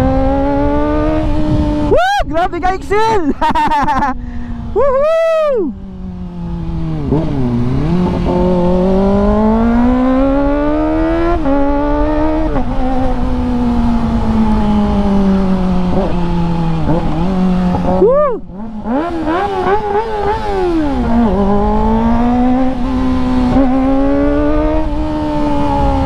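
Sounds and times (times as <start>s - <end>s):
motorcycle engine accelerating: 0.0s - 2.0s, 3.5s - 26.0s.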